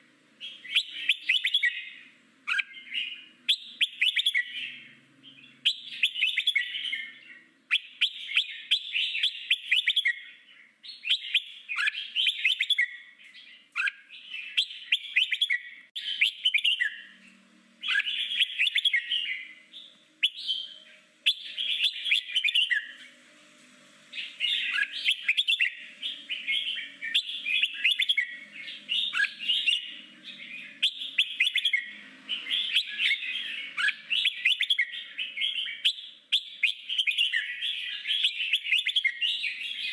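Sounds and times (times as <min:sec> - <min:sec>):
bird singing warbled phrases: 0:00.0 - 0:23.2, 0:24.1 - 0:39.9.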